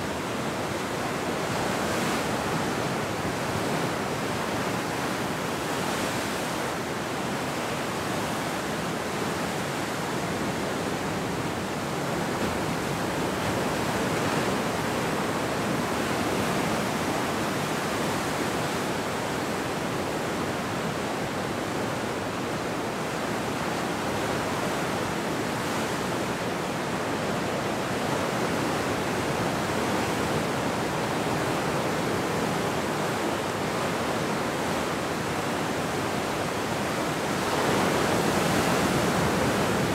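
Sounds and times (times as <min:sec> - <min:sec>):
ocean waves breaking: 0:00.1 - 0:39.9.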